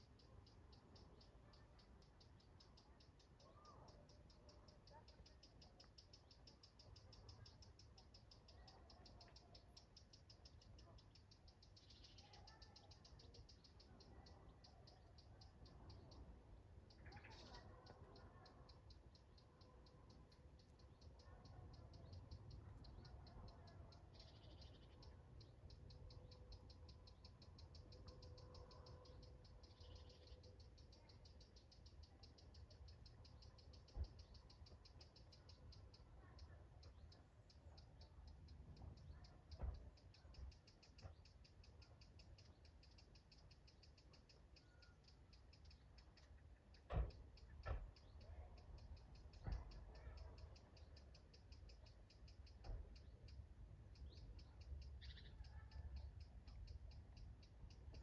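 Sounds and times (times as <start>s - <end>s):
garden ambience: 0.0s - 58.0s.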